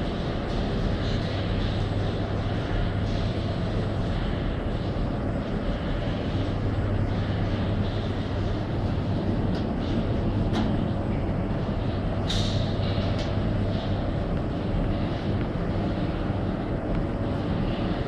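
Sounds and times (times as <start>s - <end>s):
machinery drone: 0.0s - 18.0s.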